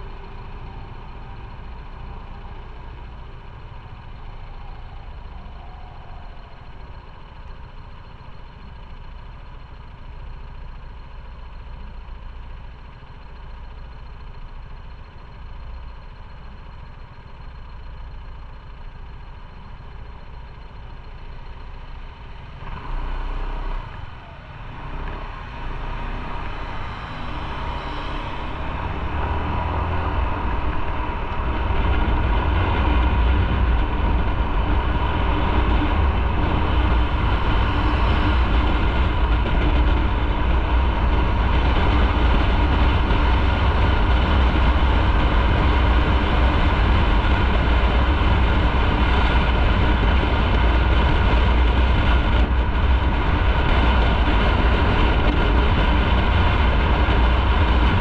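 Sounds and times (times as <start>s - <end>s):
motorcycle riding: 0.0s - 58.0s.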